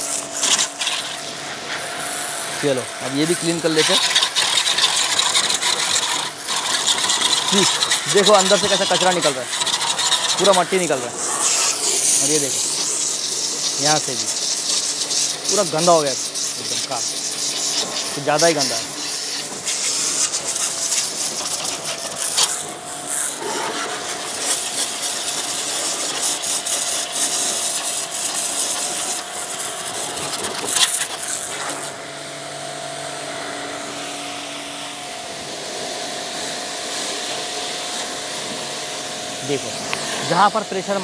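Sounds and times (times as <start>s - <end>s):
faint motor whine: 0.0s - 41.0s
pressure washer spraying water: 0.0s - 41.0s.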